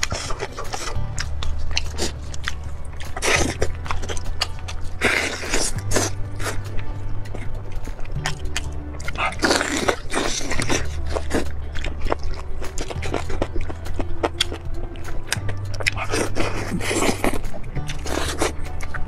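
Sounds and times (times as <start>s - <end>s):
background music with bass: 0.0s - 19.0s
biting into meat: 0.0s - 19.0s
roasted chicken tearing and crackling: 0.0s - 19.0s.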